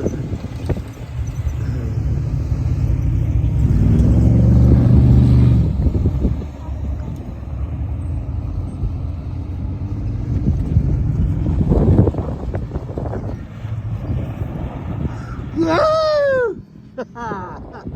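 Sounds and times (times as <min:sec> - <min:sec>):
off-road vehicle engine: 0:00.0 - 0:17.9.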